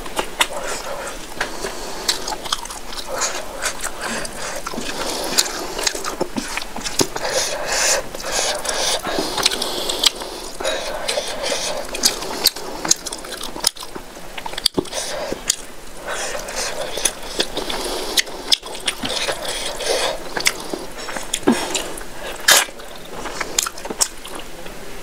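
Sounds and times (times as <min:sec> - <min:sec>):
wet squishing of food: 0:00.0 - 0:24.6.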